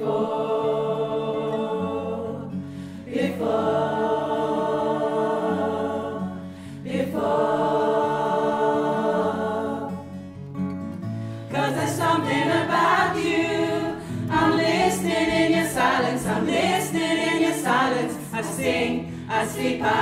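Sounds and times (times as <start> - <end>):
choir singing long held notes: 0.0 - 10.2, 11.5 - 20.0
acoustic guitars: 0.0 - 20.0.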